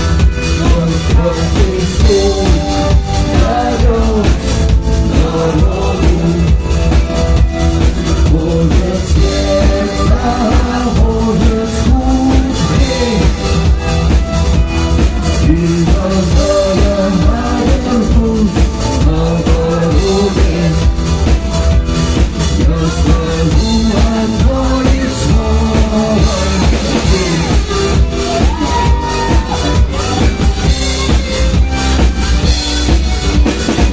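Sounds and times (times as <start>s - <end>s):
drum kit beat: 0.0s - 33.9s
live rock band playing: 0.0s - 33.9s.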